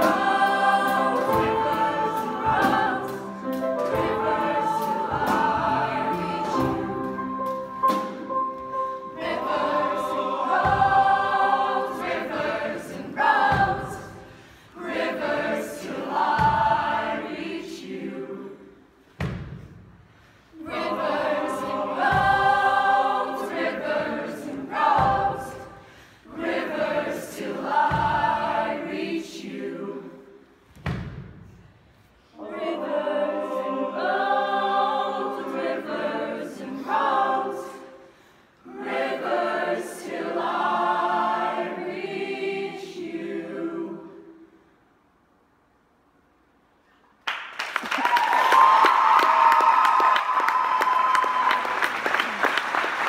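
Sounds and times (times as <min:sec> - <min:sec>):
choir singing in harmony: 0:00.0 - 0:19.6, 0:20.2 - 0:45.1.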